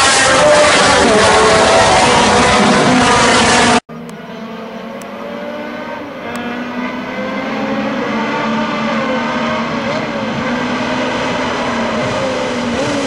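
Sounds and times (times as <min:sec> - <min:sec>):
race car engines: 0:00.0 - 0:13.0
race cars accelerating: 0:00.0 - 0:13.0.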